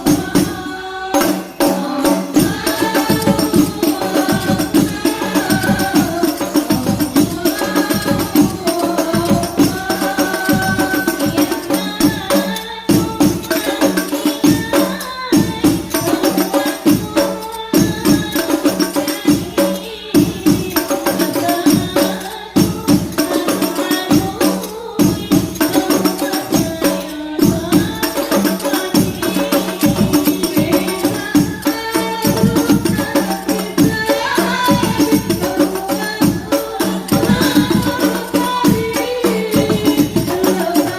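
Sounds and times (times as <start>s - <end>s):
frame drums beaten by hand: 0.0s - 40.9s
voices singing a chant: 0.0s - 40.9s.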